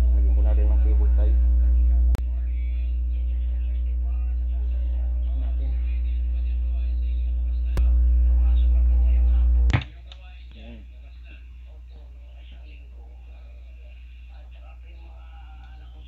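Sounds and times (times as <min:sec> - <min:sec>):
amplifier mains hum: 0:00.0 - 0:16.0.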